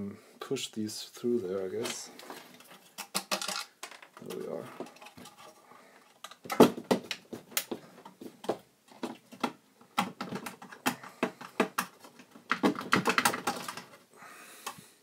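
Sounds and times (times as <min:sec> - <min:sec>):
metal and plastic clicks and knocks: 0:01.8 - 0:14.0.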